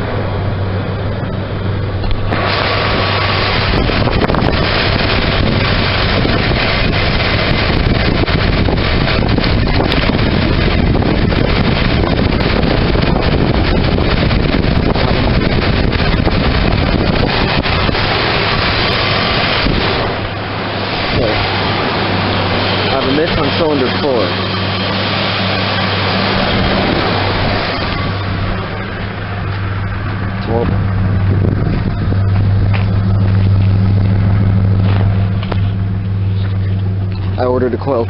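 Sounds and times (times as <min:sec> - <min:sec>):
rough engine idling at exhaust: 0:00.0 - 0:38.0.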